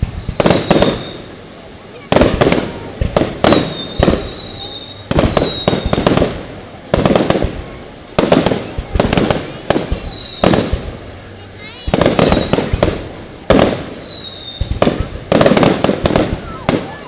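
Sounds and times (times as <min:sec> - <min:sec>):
fireworks whistles sliding down: 0:00.0 - 0:01.4, 0:02.1 - 0:06.4, 0:07.0 - 0:17.0
fireworks echoing bangs: 0:00.0 - 0:17.0.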